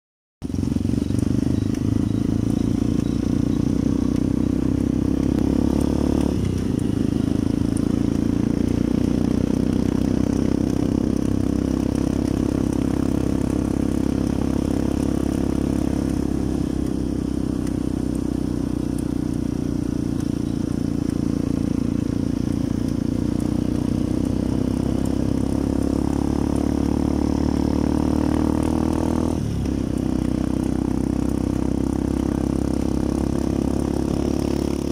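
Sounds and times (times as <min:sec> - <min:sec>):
motorcycle engine running: 0:00.4 - 0:34.9.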